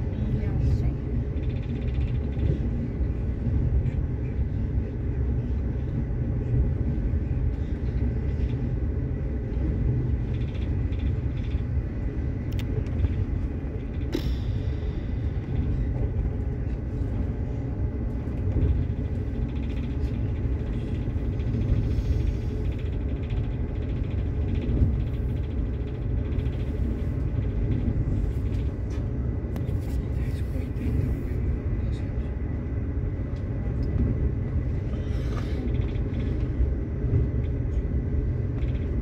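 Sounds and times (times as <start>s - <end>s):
train rumbling on track: 0.0s - 39.0s.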